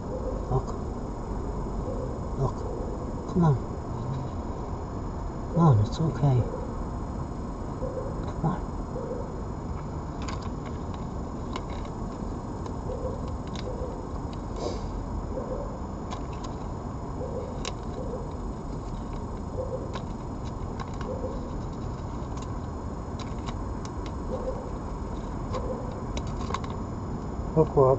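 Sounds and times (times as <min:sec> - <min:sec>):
low background rumble: 0:00.0 - 0:27.9.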